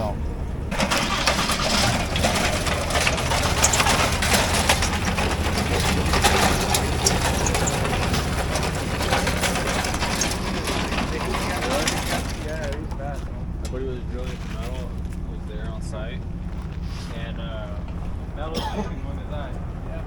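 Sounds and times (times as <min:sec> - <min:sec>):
generator engine running with rattle: 0:00.0 - 0:20.0.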